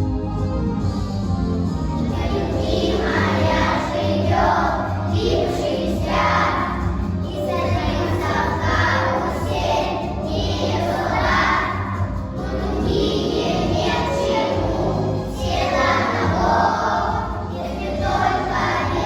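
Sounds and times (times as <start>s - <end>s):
musical accompaniment: 0.0s - 19.0s
children singing together: 2.1s - 19.0s.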